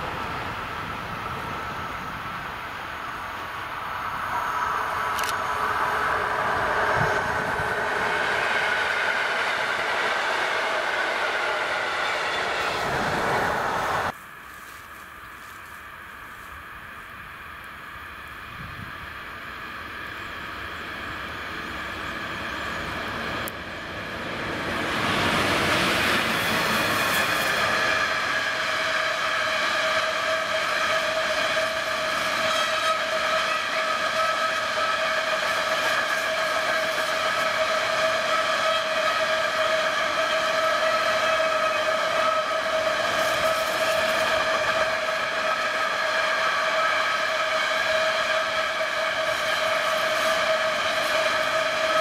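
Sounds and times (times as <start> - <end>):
freight train passing: 0.0 - 52.0.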